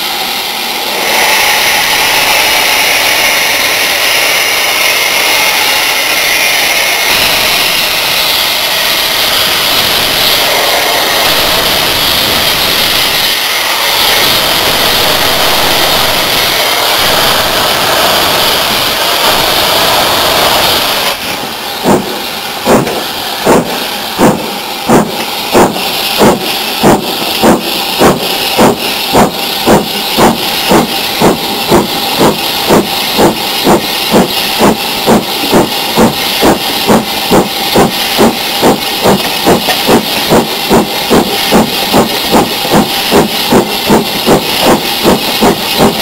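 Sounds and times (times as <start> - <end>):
hiss of escaping steam: 0.0 - 46.0
steam locomotive chuffing: 0.0 - 46.0.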